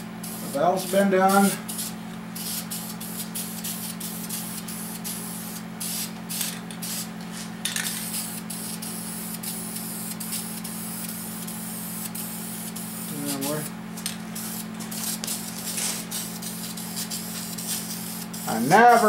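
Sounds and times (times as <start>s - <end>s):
low background hum: 0.0s - 19.0s
spray paint can hissing: 0.2s - 0.6s, 1.3s - 19.0s.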